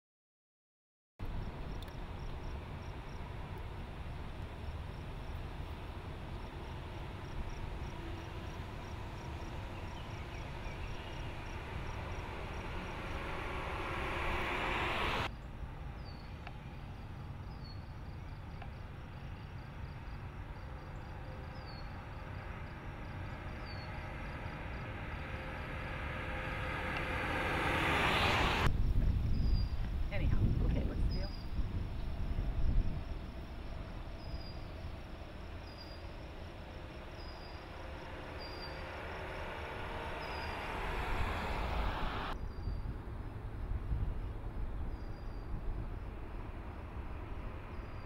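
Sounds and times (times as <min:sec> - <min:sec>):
van driving by: 0:01.2 - 0:30.6, 0:31.4 - 0:48.0
insects chirping: 0:01.2 - 0:48.0.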